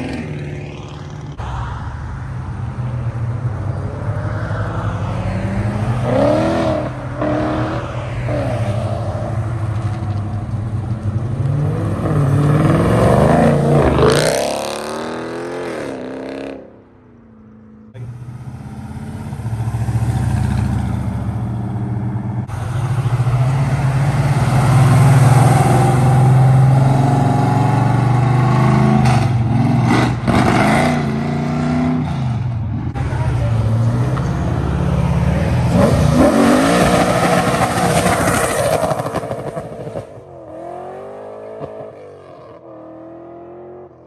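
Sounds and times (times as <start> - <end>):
car engines running steadily: 0.0 - 14.1, 16.6 - 30.6, 31.4 - 40.4
car engine revving: 4.0 - 16.7, 17.8 - 44.0.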